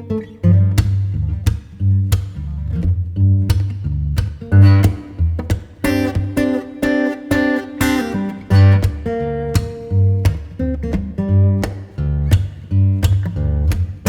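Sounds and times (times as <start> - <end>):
acoustic guitar picking: 0.0 - 14.0
low bass notes: 0.3 - 6.5, 8.2 - 14.0.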